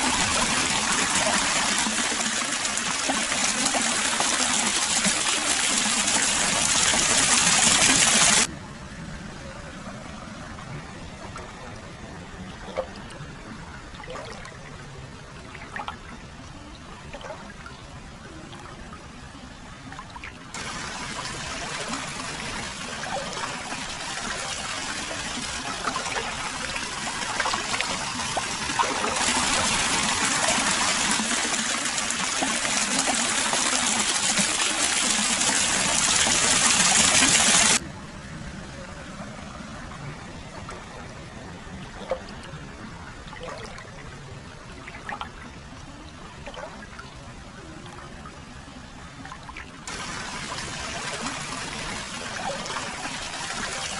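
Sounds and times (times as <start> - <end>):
water flowing and splashing: 0.0 - 53.9.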